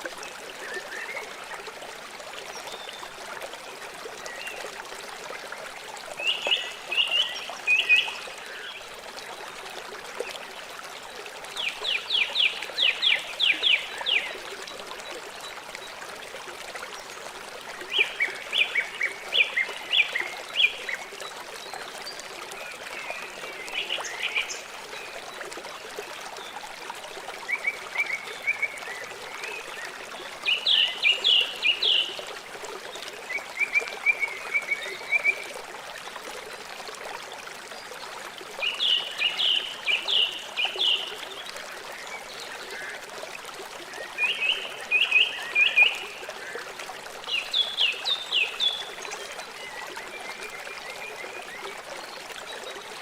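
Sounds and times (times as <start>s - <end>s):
river water running: 0.0s - 53.0s.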